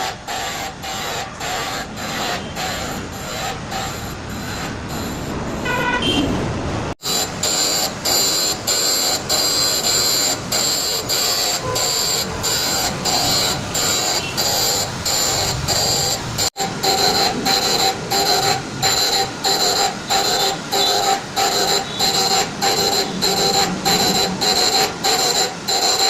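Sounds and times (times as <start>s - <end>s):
machine tool running with whine: 0.0s - 5.6s, 7.0s - 26.0s.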